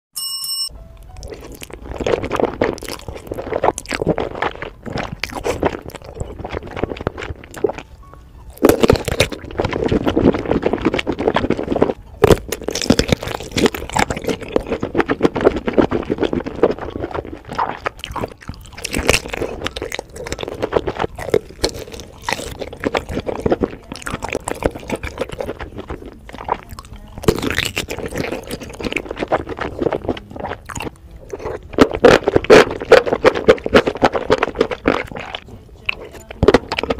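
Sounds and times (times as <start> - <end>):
sausage chewing: 0.9 - 36.9
noodles slurped: 1.1 - 36.9.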